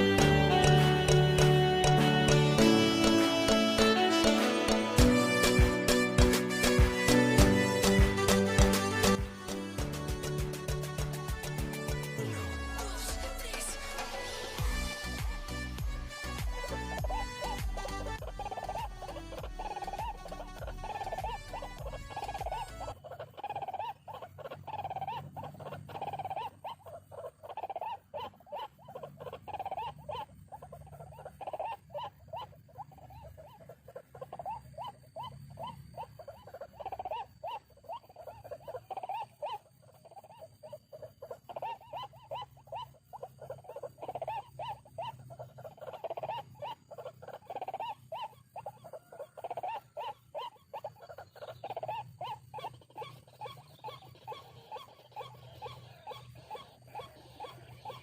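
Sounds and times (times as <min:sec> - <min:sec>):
waterhen harsh call: 0:00.0 - 0:09.6, 0:12.6 - 0:58.0.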